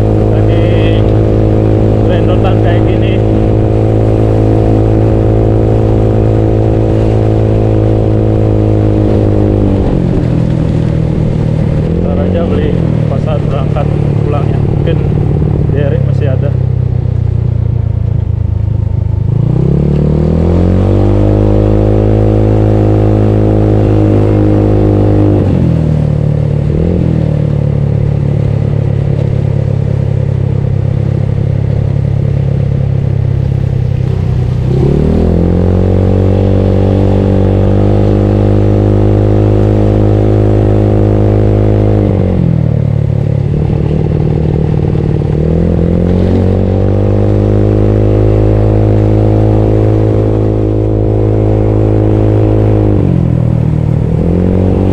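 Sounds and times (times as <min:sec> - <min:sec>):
scooter engine revving: 0:00.0 - 0:54.9.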